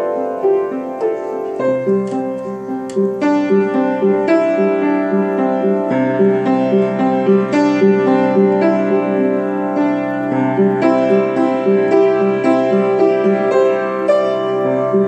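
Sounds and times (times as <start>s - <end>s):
improvised piano music: 0.0s - 15.0s.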